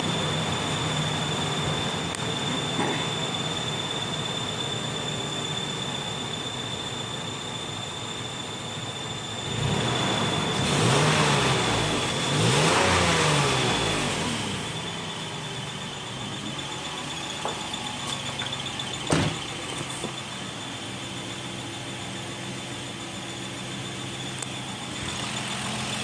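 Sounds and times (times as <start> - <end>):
car engine revving and idling: 0.0 - 6.0, 9.1 - 26.0
high whine: 0.0 - 26.0.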